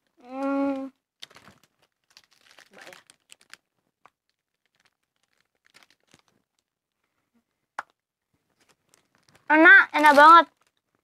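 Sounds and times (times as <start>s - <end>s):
plastic wrapper crinkling: 0.0s - 7.0s, 8.5s - 11.0s.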